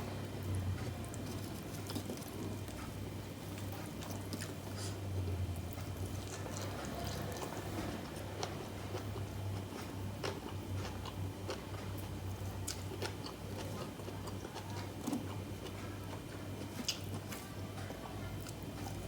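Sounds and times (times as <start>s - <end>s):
steady low hum: 0.0s - 19.0s
person chewing: 0.8s - 19.0s.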